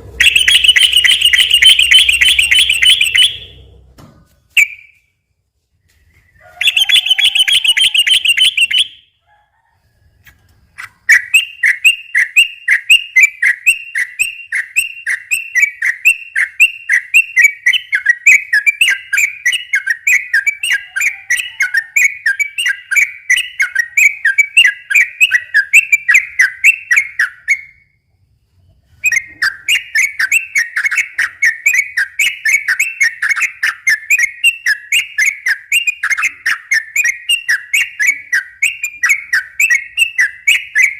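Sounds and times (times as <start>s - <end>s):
bulbul singing: 0.0s - 3.8s, 6.0s - 9.2s, 10.8s - 27.9s, 29.0s - 40.9s.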